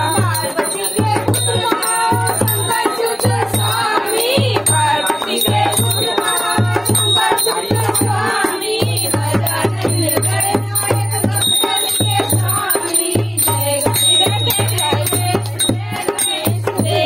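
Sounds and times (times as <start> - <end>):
barrel drum played by hand: 0.0 - 17.0
devotional singing: 0.0 - 17.0
high metallic ringing: 0.0 - 17.0.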